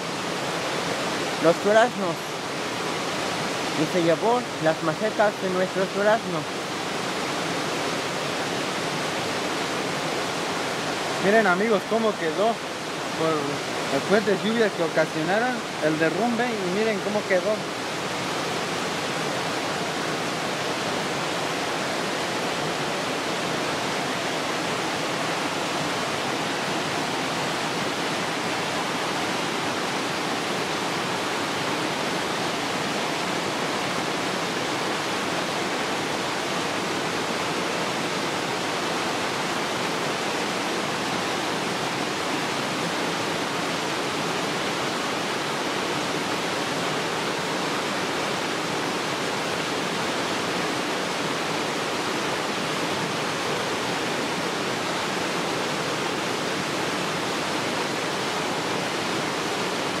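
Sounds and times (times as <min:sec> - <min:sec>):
rushing river water: 0:00.0 - 1:00.0.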